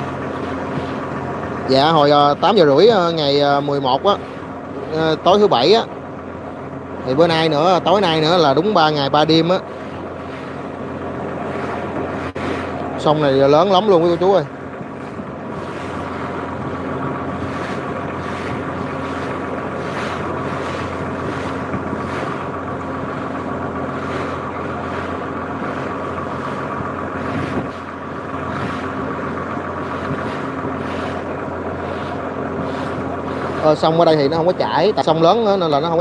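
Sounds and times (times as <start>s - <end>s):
boat engine running: 0.0s - 36.0s
water splashing on hull: 0.0s - 36.0s.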